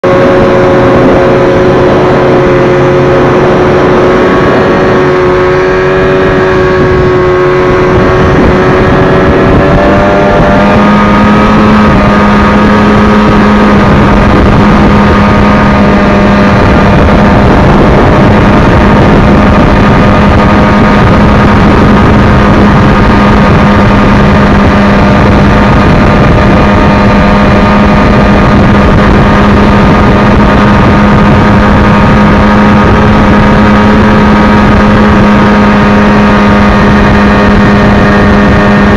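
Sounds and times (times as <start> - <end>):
snowmobile engines running: 0.0 - 38.9.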